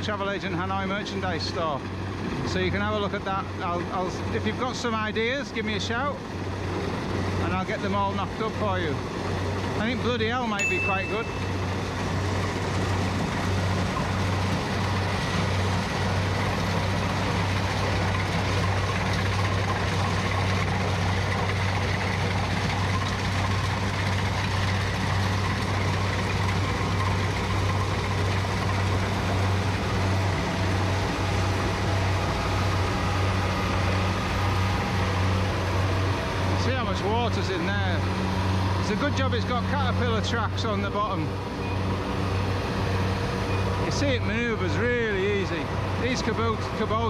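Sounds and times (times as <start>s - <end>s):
diesel engine running: 0.0s - 47.0s
working machinery noise: 0.0s - 47.0s.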